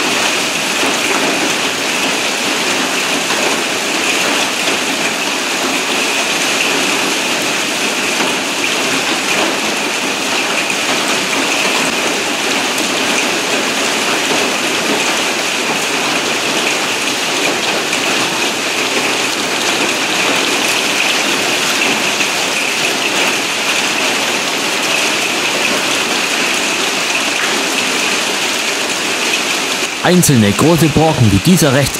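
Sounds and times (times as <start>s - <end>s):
heavy hail and rain on metal roof: 0.0s - 30.0s.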